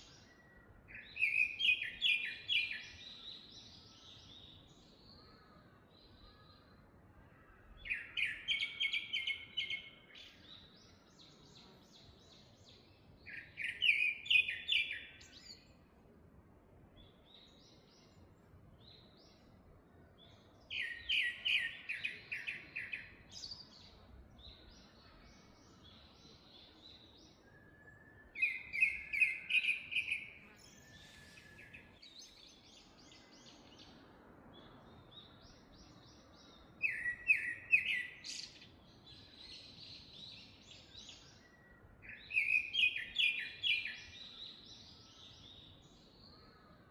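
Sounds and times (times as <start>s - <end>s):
bird trilling song: 0.0s - 6.8s, 7.4s - 15.8s, 20.2s - 46.9s.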